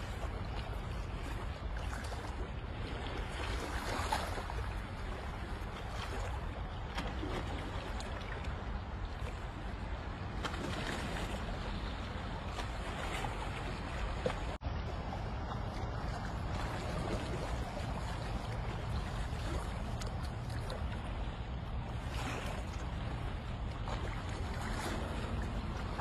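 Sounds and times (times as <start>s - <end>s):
sea water lapping against rocks: 0.0s - 26.0s
wind rumble on microphone: 0.0s - 26.0s.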